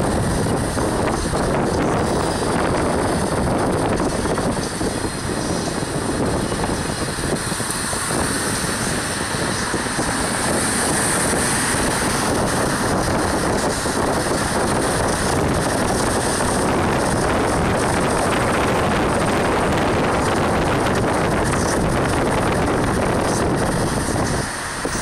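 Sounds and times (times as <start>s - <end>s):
vehicle driving on road: 0.0s - 25.0s
wind on microphone: 0.0s - 25.0s.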